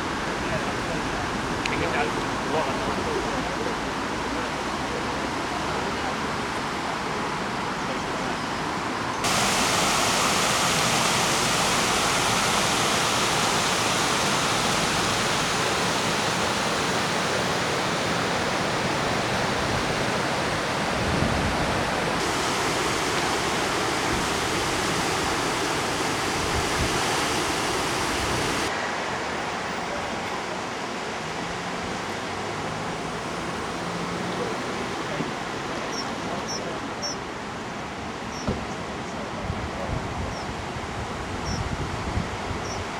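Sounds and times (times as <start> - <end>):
floodwater rushing: 0.0 - 39.4.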